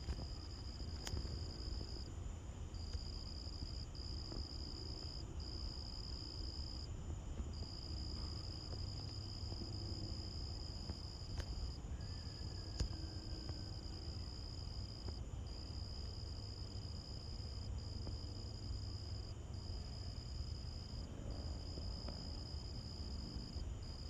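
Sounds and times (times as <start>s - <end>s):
cricket trilling: 0.0s - 2.1s, 2.7s - 24.0s.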